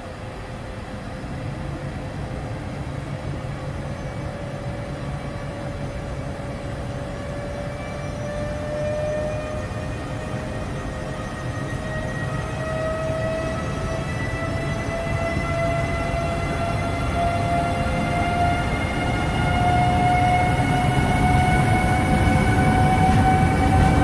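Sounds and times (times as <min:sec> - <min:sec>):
electric locomotive motor whine: 0:00.0 - 0:24.0
low rumble of moving train: 0:00.0 - 0:24.0.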